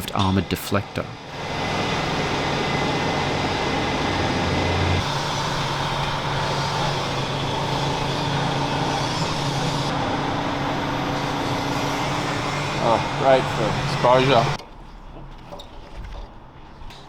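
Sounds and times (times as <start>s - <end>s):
machine hum and hiss: 0.0s - 14.6s.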